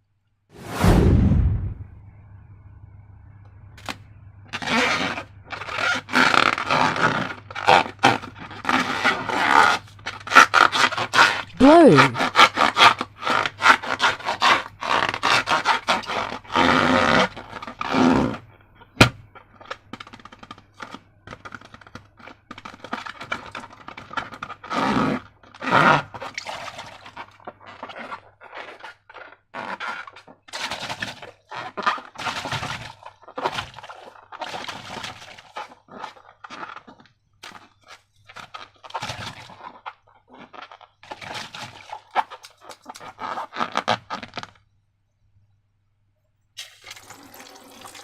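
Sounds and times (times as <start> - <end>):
slime squishing and crinkling: 4.6 - 18.4, 19.4 - 44.6.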